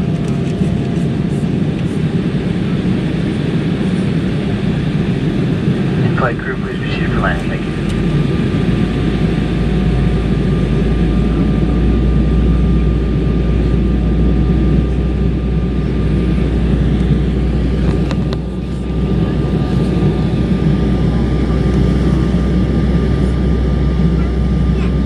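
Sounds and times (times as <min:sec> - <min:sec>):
jet engine and airflow rumble: 0:00.0 - 0:25.0.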